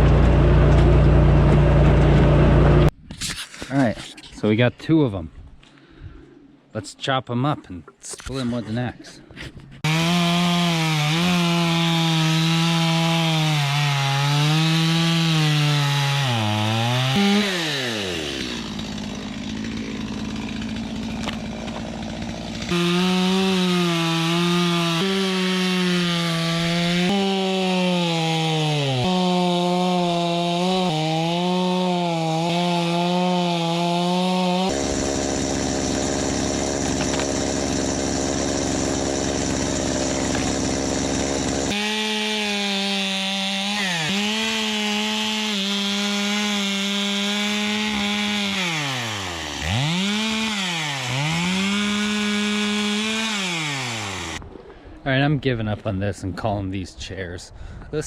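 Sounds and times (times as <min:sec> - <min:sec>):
chainsaw cutting logs: 0:00.0 - 0:02.9, 0:09.8 - 0:54.6.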